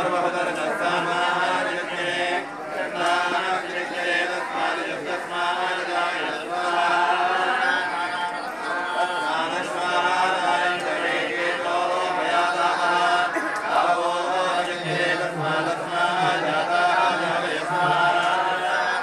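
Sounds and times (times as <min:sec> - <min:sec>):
group chanting in unison: 0:00.0 - 0:19.0.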